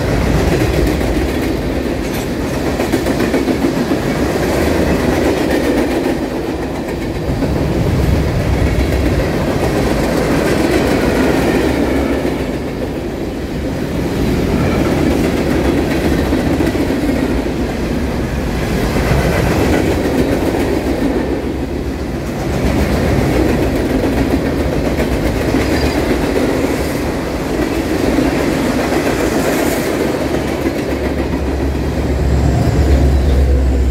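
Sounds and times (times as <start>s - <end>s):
diesel locomotive engine: 0.0s - 33.9s
freight wheels clacking on rails: 0.0s - 33.9s.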